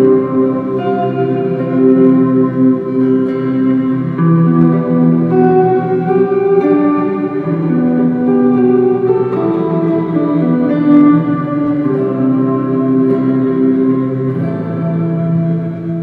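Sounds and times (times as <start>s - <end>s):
electric guitar with reverb: 0.0s - 16.0s.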